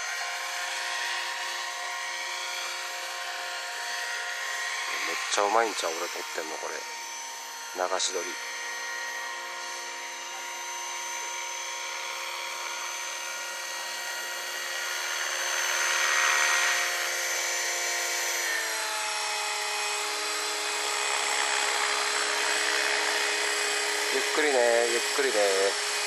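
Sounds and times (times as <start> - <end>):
model helicopter motor whine: 0.0 - 26.0.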